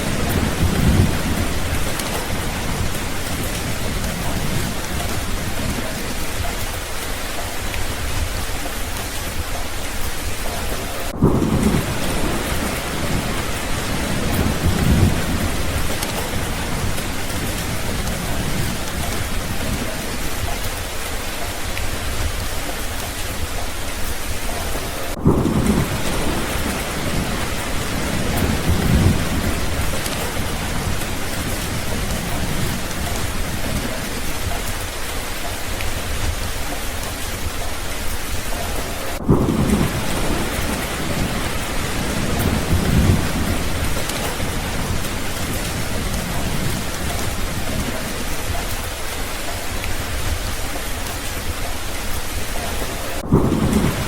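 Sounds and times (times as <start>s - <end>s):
heavy rain falling: 0.0s - 54.0s
rolling thunder: 0.0s - 54.0s.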